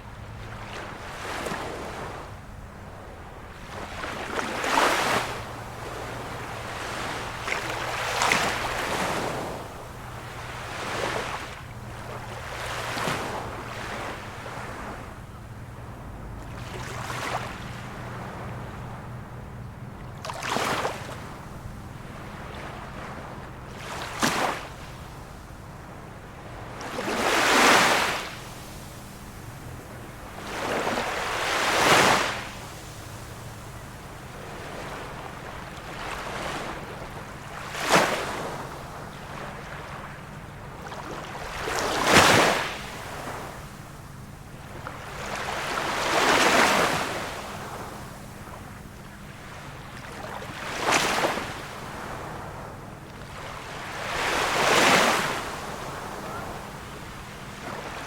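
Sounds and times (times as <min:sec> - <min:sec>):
small waves breaking on shore: 0:00.0 - 0:58.0.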